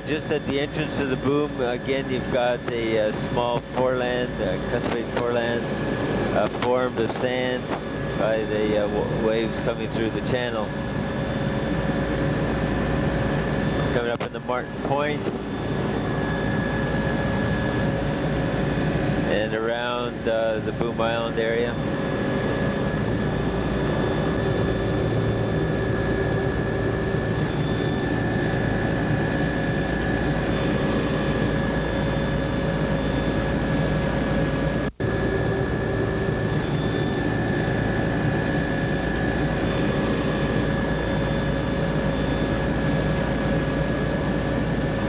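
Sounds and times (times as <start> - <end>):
aircraft engine drone: 0.0 - 45.0.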